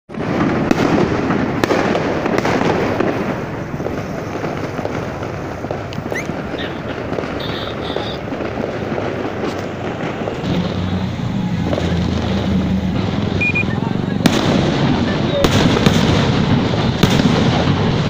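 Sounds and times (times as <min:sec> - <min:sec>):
fireworks crackling: 0:00.1 - 0:18.0.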